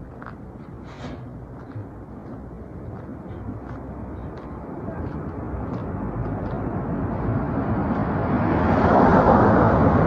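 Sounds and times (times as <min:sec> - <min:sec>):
vehicle approaching on road: 0:00.0 - 0:10.0.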